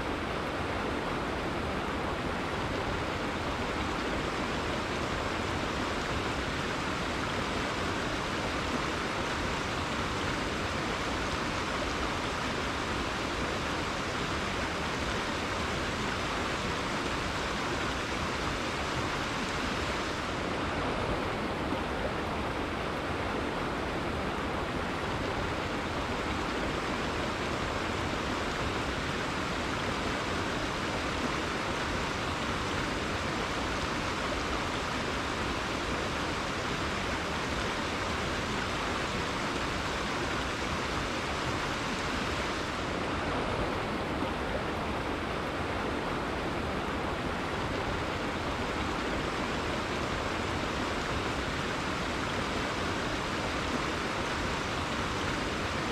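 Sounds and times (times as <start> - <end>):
river water flowing over rocks: 0.0 - 55.9.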